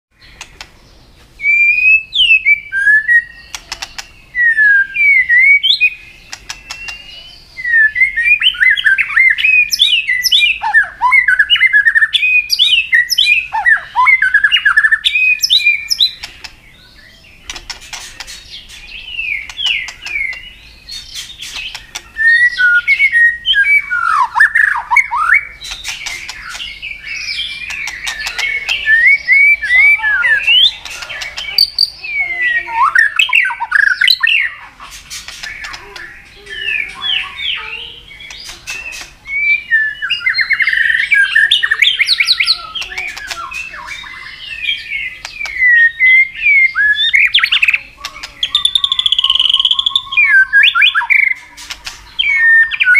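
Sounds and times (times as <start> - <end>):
bird singing whistled phrases: 1.4 - 52.9.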